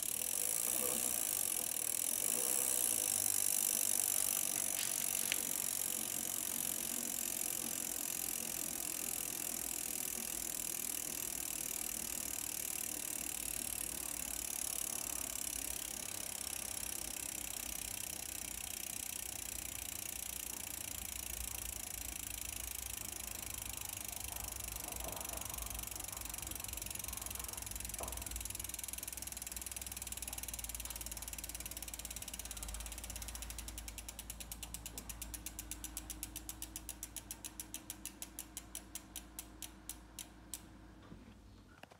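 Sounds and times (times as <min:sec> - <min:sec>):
bicycle freehub clicking: 0:00.0 - 0:40.8.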